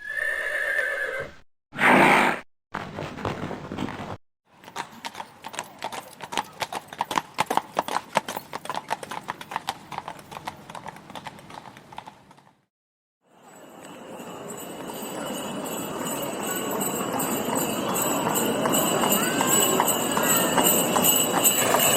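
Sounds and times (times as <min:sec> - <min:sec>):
horse hooves clip-clopping: 0:02.8 - 0:12.6, 0:13.8 - 0:21.9.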